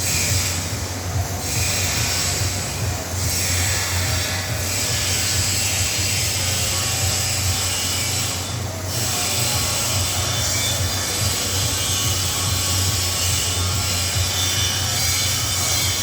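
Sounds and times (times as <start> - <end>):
low machine hum: 0.0 - 16.0
workshop machine hiss: 0.0 - 16.0.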